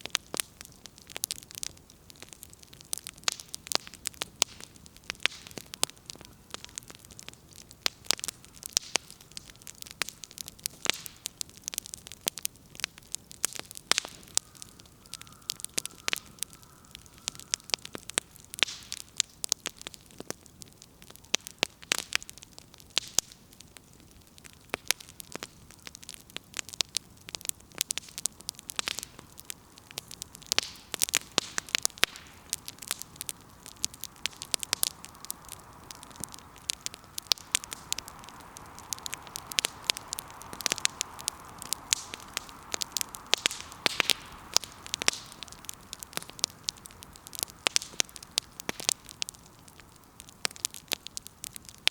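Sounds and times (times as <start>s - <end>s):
firewood crackling and popping: 0.0s - 51.9s
soft hiss of fire: 0.0s - 51.9s.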